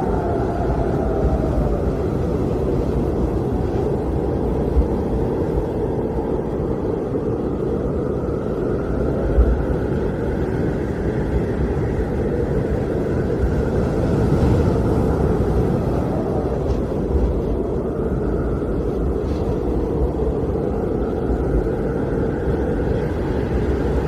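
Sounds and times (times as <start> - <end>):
blizzard wind blowing: 0.0 - 24.0.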